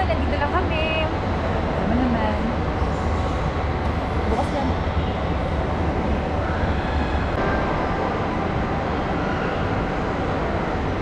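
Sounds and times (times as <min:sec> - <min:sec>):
indoor mall ambient rumble: 0:00.0 - 0:11.0.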